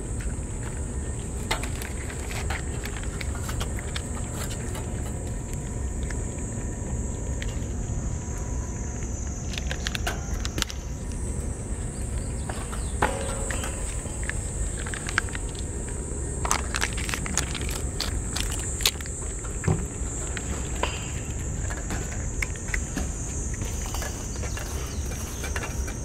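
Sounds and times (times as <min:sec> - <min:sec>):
cats chewing and licking: 0:00.1 - 0:25.9.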